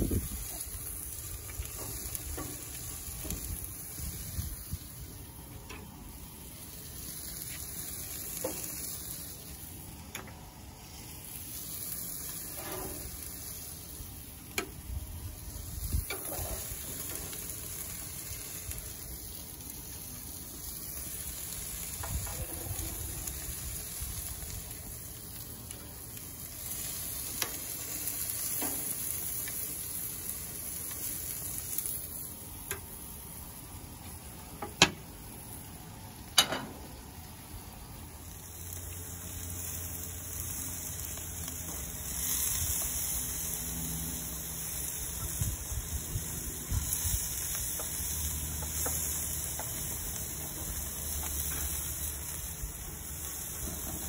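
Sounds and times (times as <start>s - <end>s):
kebabs sizzling on grill: 0.0s - 54.0s.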